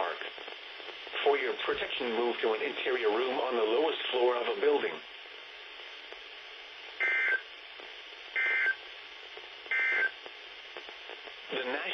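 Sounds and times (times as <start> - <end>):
steady radio hiss: 0.0 - 11.9.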